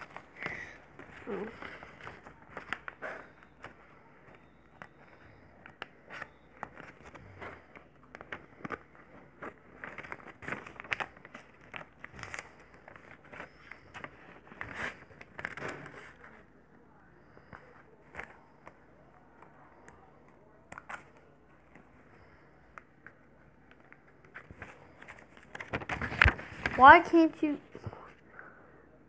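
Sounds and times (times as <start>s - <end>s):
paper crinkling and rustling: 0.0s - 16.5s, 17.2s - 27.8s.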